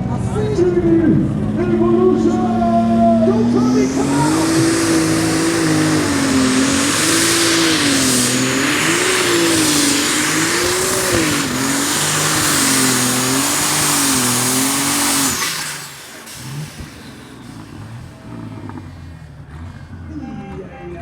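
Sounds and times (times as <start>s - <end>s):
low engine rumble: 0.0s - 21.0s
tractor engines at full throttle: 0.0s - 21.0s.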